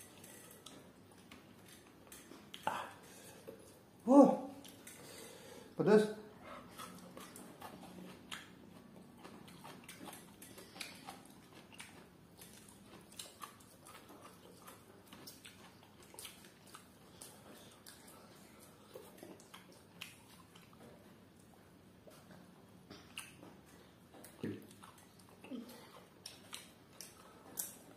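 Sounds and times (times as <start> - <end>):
chewing clicks and mouth smacks: 0.0 - 3.8, 6.6 - 27.9.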